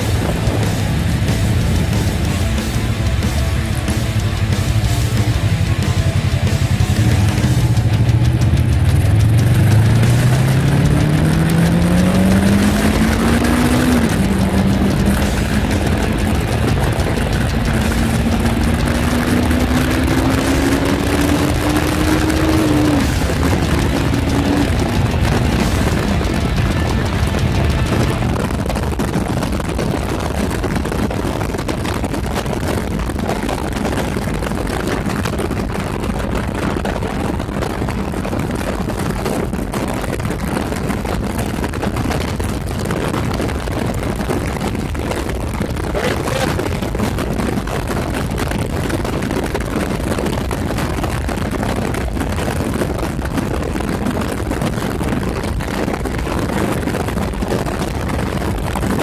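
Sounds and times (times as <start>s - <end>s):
heavy rushing wind noise: 0.0s - 59.0s
motorcycle engine cruising: 0.0s - 59.0s.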